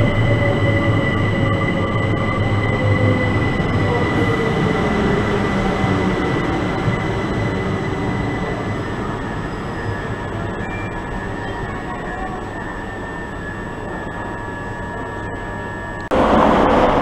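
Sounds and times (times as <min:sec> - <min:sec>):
electric train passing slowly: 0:00.0 - 0:17.0.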